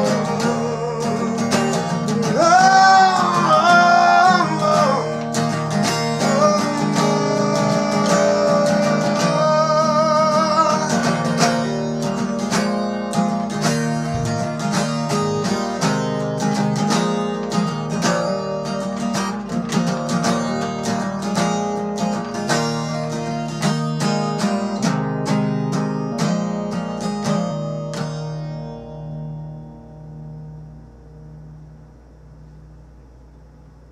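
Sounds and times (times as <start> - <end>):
acoustic guitar strumming: 0.0 - 33.9.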